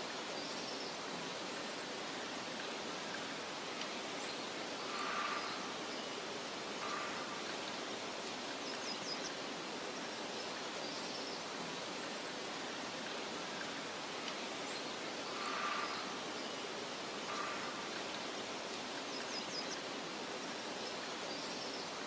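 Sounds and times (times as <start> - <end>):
soft outdoor hiss: 0.0 - 22.0.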